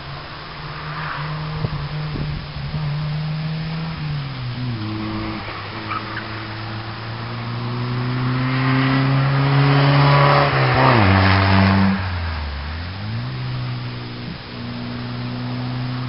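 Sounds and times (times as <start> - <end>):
car engine passing by: 0.0 - 16.0.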